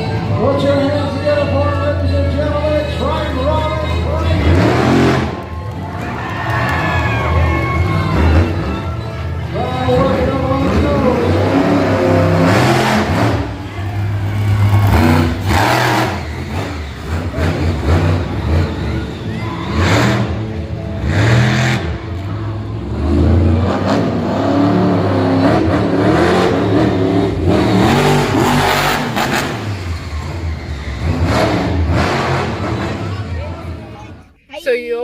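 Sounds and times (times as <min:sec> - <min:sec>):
monster truck engines revving: 0:00.0 - 0:34.3.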